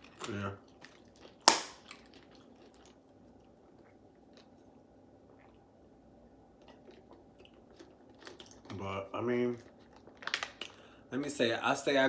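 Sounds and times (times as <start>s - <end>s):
chewing crunches: 0.0s - 5.6s, 6.6s - 10.9s.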